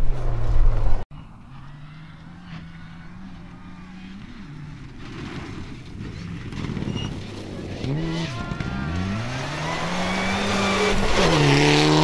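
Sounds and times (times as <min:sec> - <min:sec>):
distant rally car engine: 0:00.0 - 0:12.0.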